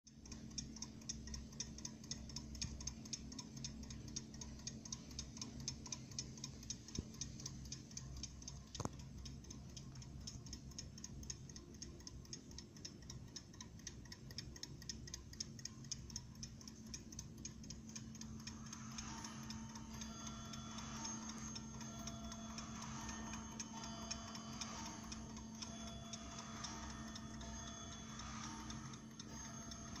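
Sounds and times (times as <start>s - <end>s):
alarm clock ticking: 0.1s - 30.0s.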